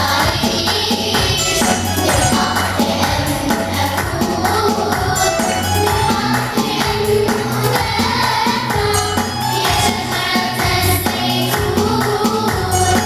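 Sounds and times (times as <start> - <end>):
choir singing: 0.0 - 13.0
percussion backing track: 0.0 - 13.0.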